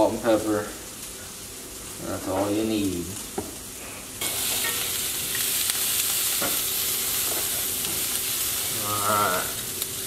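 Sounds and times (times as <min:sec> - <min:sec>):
onions sizzling in a skillet: 0:00.0 - 0:10.0.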